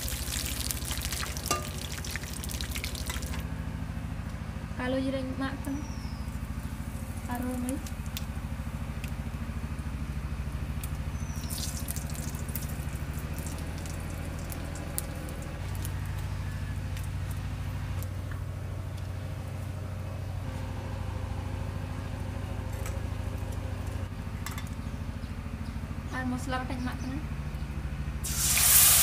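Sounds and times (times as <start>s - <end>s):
small engine idling: 0.0s - 29.0s.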